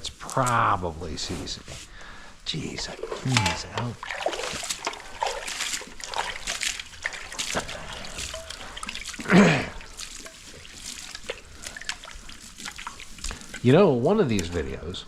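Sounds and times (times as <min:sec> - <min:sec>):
water splashing and dribbling: 0:00.0 - 0:15.0.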